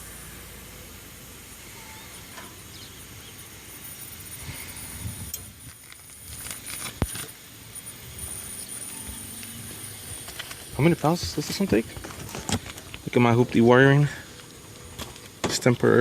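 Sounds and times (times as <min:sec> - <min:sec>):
faint hiss of refrigerant: 0:00.0 - 0:16.0.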